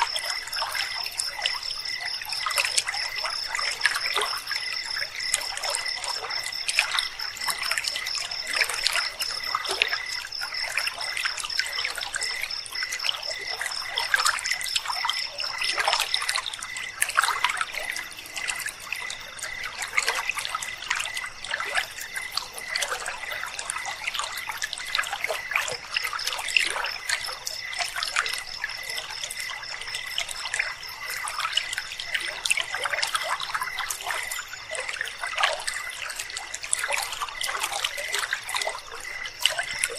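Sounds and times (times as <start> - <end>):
low steady insect trill: 0.0 - 39.9.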